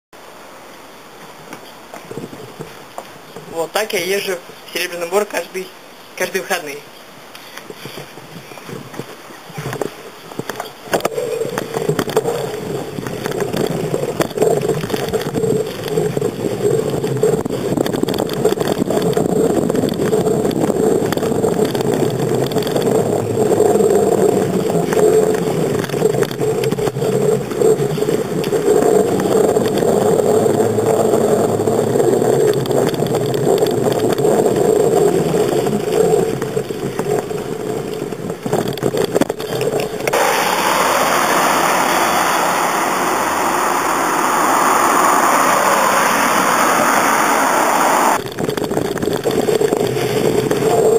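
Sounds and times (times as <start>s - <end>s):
bicycle rattles and bumps: 1.3s - 4.2s, 6.9s - 50.9s
wind on microphone: 2.0s - 3.6s, 7.1s - 50.9s
tyres rumbling on road: 7.7s - 50.9s.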